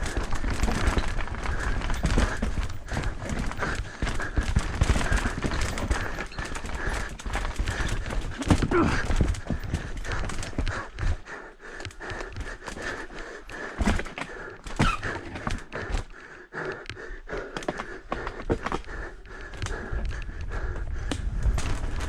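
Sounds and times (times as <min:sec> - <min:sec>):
bike knocks and rattles: 0:00.0 - 0:16.1, 0:17.4 - 0:22.0
bike tyres rolling over dirt: 0:00.0 - 0:16.1, 0:17.8 - 0:22.0
rider breathing hard: 0:00.0 - 0:22.0.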